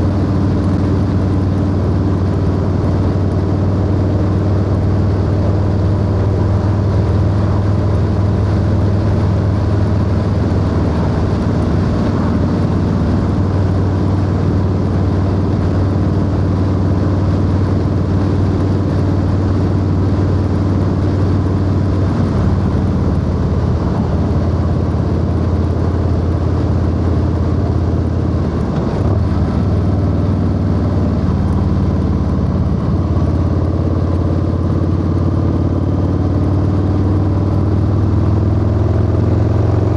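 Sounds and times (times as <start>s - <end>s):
wind noise: 0.0s - 33.7s
motorcycle engine running: 0.0s - 39.9s.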